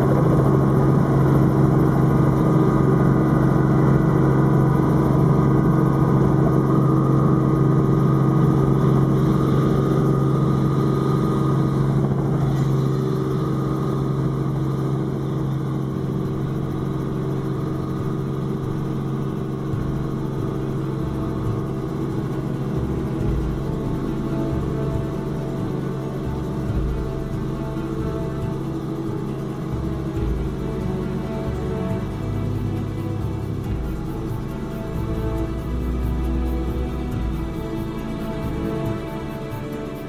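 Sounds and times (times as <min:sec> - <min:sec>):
helicopter engine and rotors: 0:00.0 - 0:40.0.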